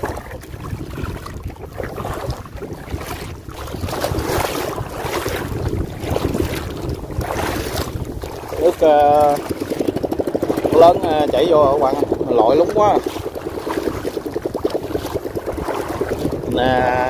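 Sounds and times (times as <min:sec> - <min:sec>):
splashing of wading in water: 0:00.0 - 0:17.0
wind buffeting microphone: 0:00.0 - 0:17.0.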